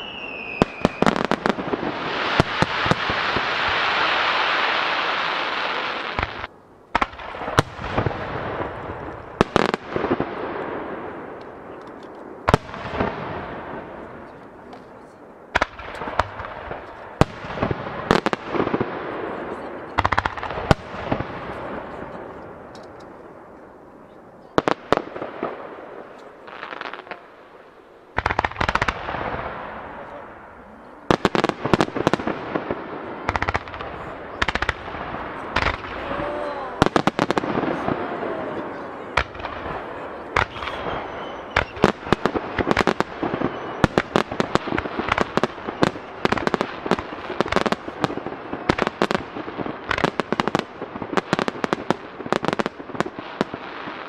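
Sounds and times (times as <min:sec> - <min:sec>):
fireworks bursting with bangs: 0:00.0 - 0:54.0
fireworks crackling: 0:00.0 - 0:54.0.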